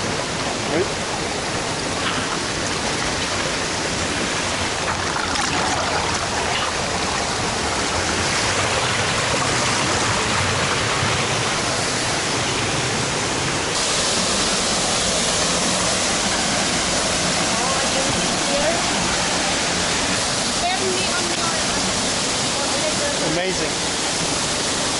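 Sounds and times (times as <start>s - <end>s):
water splashing at waterfall: 0.0s - 24.9s.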